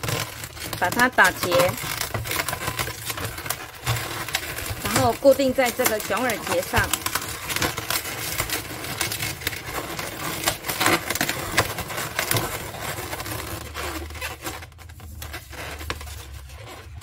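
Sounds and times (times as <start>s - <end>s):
balloons rubbing and squeaking: 0.0s - 17.0s.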